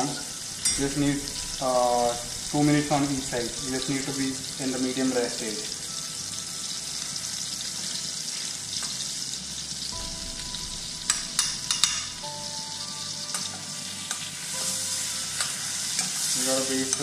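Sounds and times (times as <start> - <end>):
steak sizzling in frying pan: 0.0 - 17.0.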